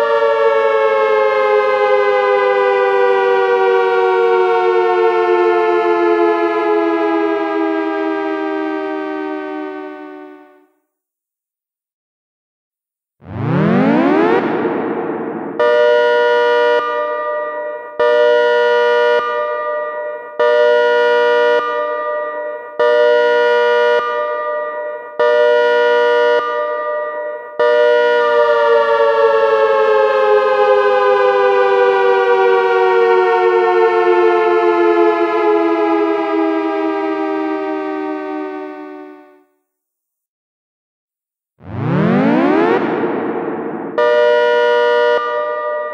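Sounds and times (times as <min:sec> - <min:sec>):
two-note siren wail: 0:00.0 - 0:10.7, 0:13.2 - 0:39.5, 0:41.6 - 0:45.9.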